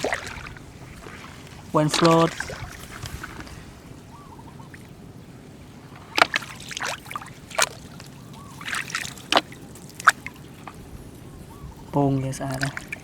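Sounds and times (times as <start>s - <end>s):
running water wash: 0.0s - 13.0s
water splashing and sloshing: 0.0s - 13.0s.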